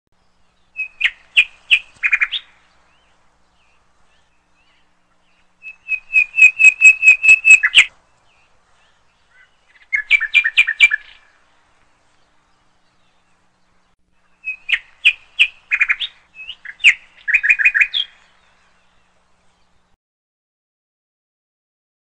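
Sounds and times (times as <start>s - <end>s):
bird chirping: 0.2s - 20.0s.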